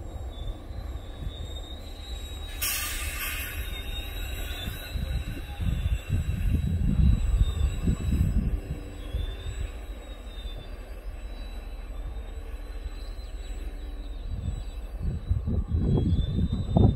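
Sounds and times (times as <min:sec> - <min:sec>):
freight wagons rumbling on track: 0:00.0 - 0:16.9.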